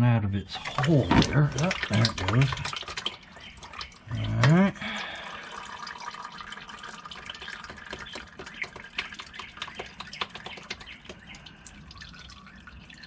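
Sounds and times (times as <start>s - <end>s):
fluid dripping into a pan: 0.6s - 13.0s.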